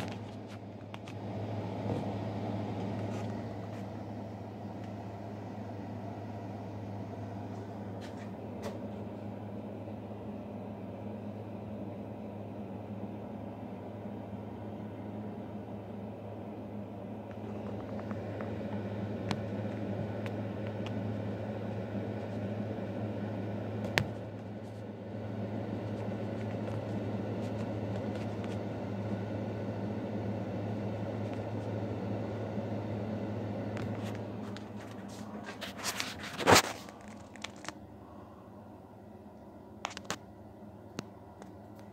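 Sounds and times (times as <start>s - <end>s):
exhaust fan humming: 0.0s - 41.9s.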